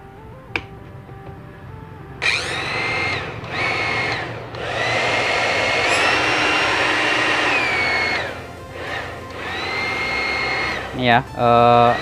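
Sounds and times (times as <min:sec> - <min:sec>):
hair dryer motor whining: 0:02.2 - 0:12.0.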